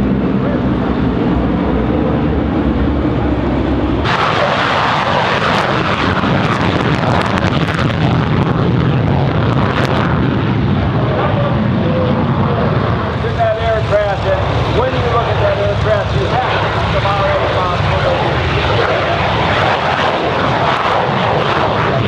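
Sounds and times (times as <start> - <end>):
propeller aircraft engines running: 0.0 - 22.0.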